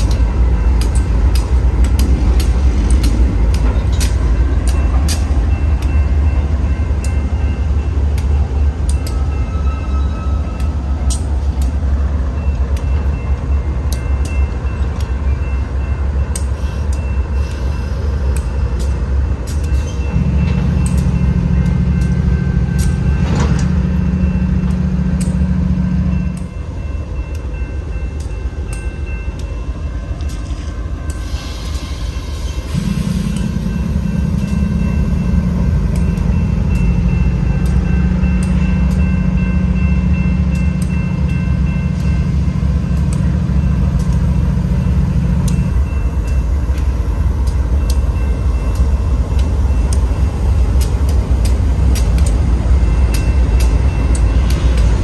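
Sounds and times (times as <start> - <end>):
crossing bell ringing: 0.0 - 55.0
diesel locomotives rumbling: 0.0 - 55.0.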